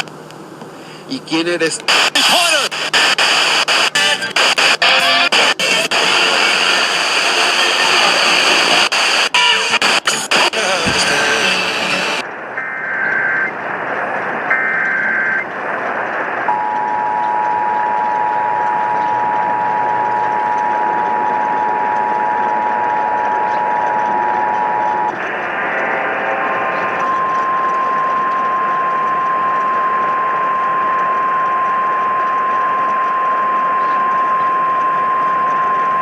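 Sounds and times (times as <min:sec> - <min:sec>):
radio static with crackles: 0:00.0 - 0:36.0
warbling data bursts: 0:01.8 - 0:36.0.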